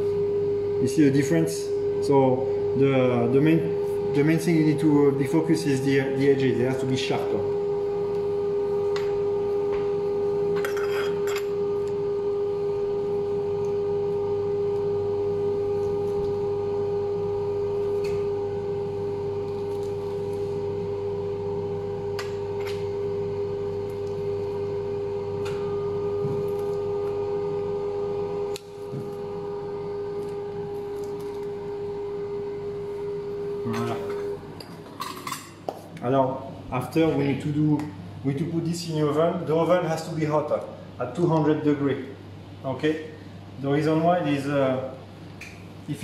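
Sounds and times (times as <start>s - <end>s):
kitchen machinery hum: 0.0s - 46.0s.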